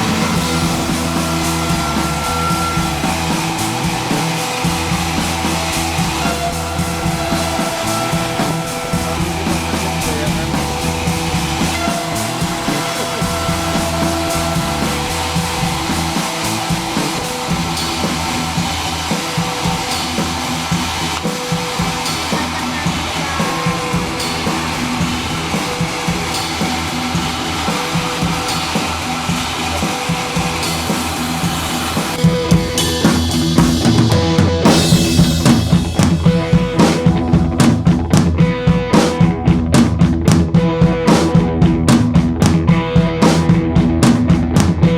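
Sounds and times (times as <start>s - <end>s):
rock music with bass guitar drums: 0.0s - 44.9s.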